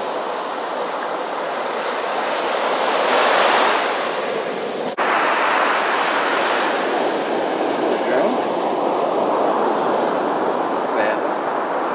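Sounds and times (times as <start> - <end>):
ocean waves washing up beach: 0.0 - 11.9.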